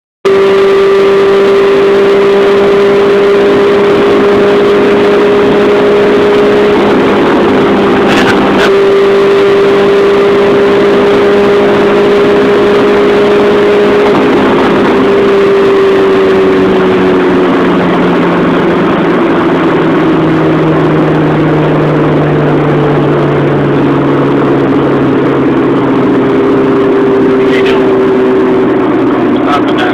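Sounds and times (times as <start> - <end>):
car engine from inside cabin: 0.3 - 29.9.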